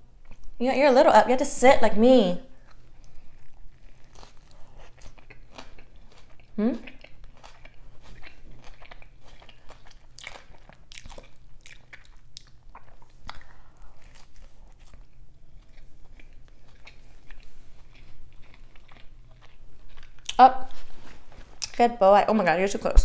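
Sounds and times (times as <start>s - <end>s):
biting and chewing food: 0.0s - 0.6s, 2.5s - 21.8s.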